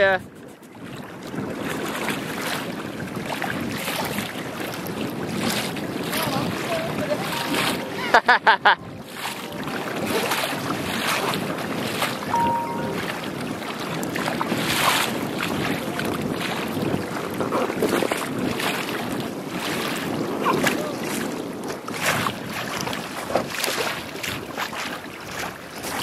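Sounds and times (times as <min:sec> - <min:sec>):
wind buffeting microphone: 0:00.0 - 0:07.7, 0:09.0 - 0:12.3, 0:13.0 - 0:26.0
waves slapping against kayak hull: 0:00.0 - 0:12.3, 0:13.0 - 0:26.0.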